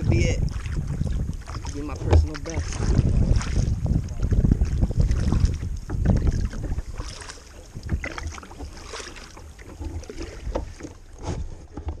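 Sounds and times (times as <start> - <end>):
paddle splashing in water: 0.0 - 12.0
wind rumbling on microphone: 0.0 - 12.0.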